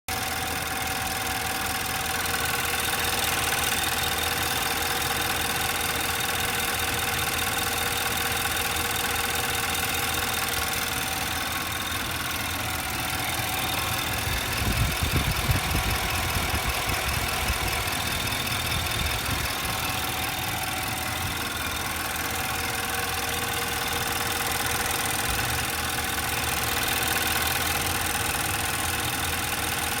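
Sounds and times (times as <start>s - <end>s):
car engine idling: 0.1s - 30.0s
whining rattly timing chain: 0.6s - 30.0s.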